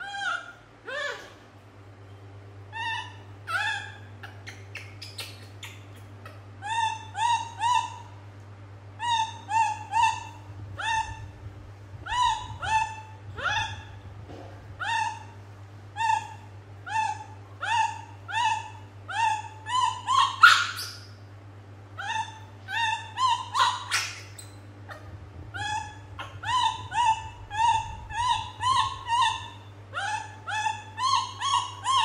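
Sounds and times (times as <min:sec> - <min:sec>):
young monkey crying: 0:00.0 - 0:01.4, 0:02.7 - 0:08.2, 0:09.0 - 0:14.1, 0:14.7 - 0:21.2, 0:22.0 - 0:32.0.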